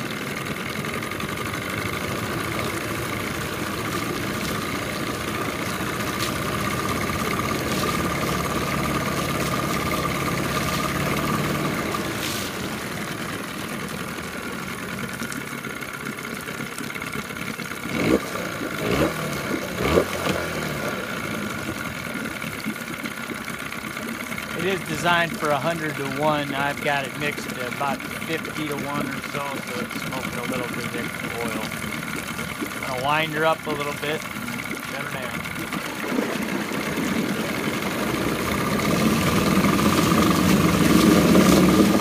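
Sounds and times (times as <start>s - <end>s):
outboard motor running: 0.0s - 42.0s
water churning: 0.0s - 42.0s.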